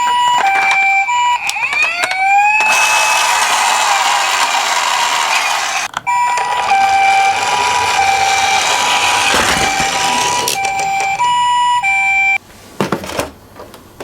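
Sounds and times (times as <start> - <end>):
ambulance siren: 0.0 - 12.4.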